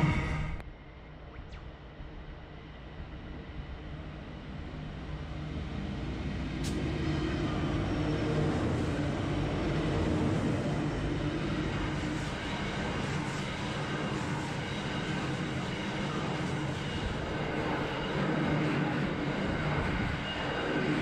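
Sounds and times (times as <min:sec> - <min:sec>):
locomotive engines droning: 0:02.6 - 0:21.0.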